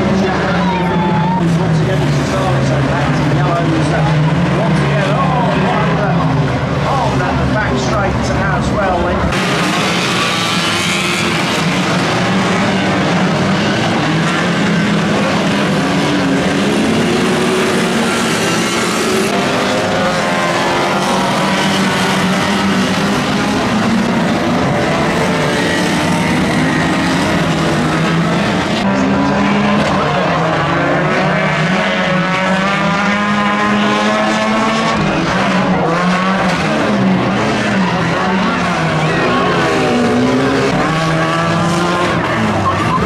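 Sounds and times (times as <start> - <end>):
racing car engines revving: 0.0 - 43.0.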